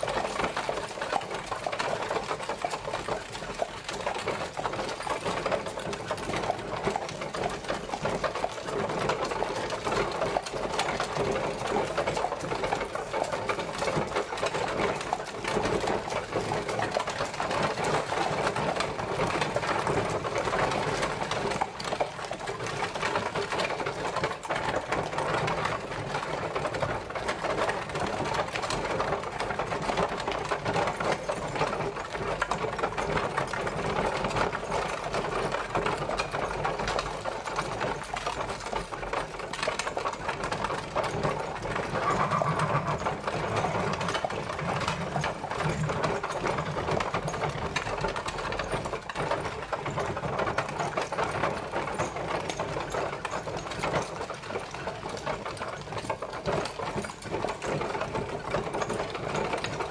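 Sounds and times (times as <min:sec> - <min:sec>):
carriage wheels rattling: 0:00.0 - 0:59.9.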